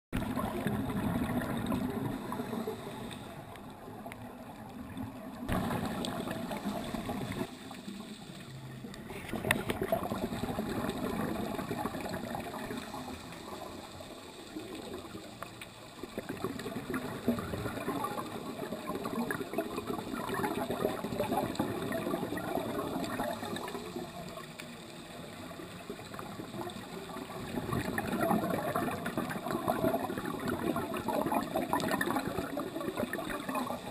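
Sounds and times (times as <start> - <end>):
underwater bubbling and gurgling: 0.1 - 33.9.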